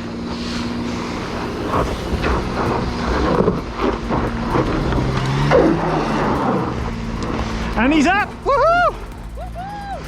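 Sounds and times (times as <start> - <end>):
car engine working under load: 0.0 - 10.0.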